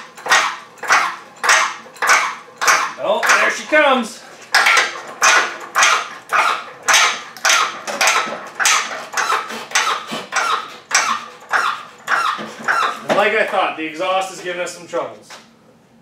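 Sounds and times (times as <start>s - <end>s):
hydraulic hoist pump strokes: 0.0s - 13.7s.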